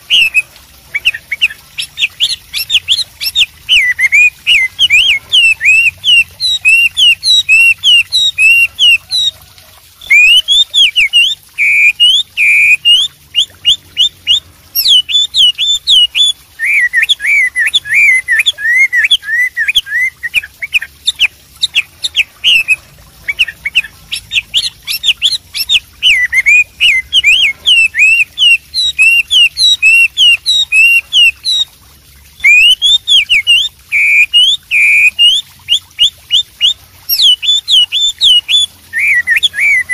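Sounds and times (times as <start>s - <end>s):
bird singing whistled notes: 0.0s - 9.3s, 10.0s - 31.7s, 32.4s - 39.9s.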